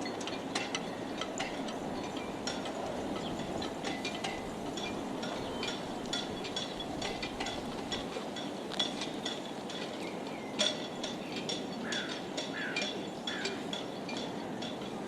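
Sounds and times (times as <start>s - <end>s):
harbour noise: 0.0s - 15.0s
light metallic clinks: 0.0s - 15.0s.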